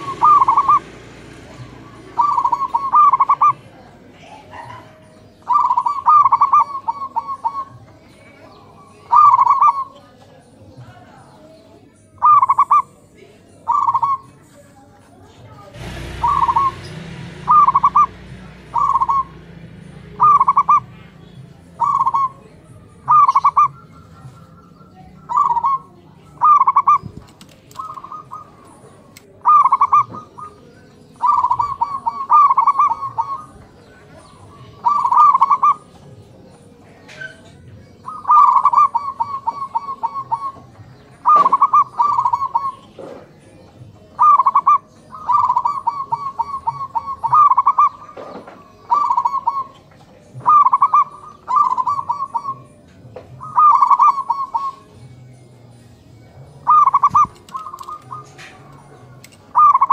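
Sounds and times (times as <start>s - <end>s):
doves cooing and trilling: 0.0s - 59.9s.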